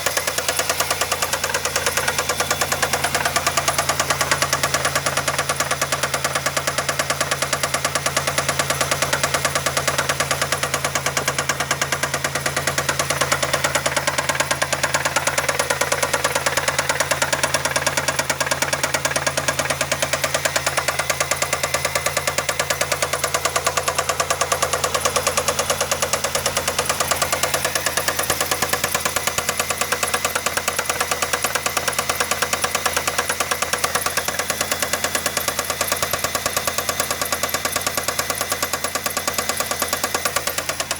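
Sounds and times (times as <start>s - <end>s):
car engine running: 0.0s - 40.9s
rapid regular engine knock: 0.0s - 40.9s.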